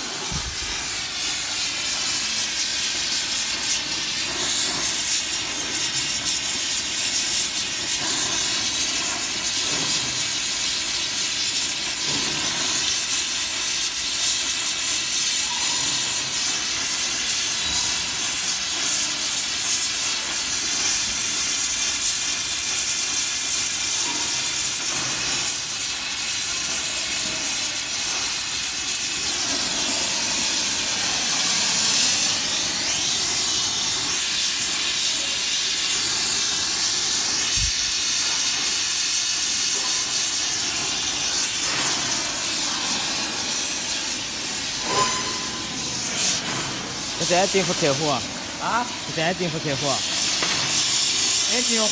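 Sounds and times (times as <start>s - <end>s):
welding torch hissing: 0.0s - 51.9s.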